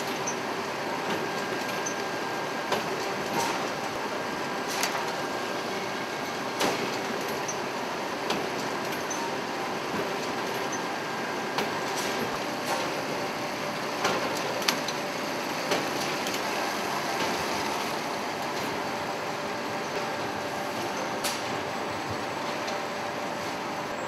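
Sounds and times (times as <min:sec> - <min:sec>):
furnaces and machinery noise: 0:00.0 - 0:24.0.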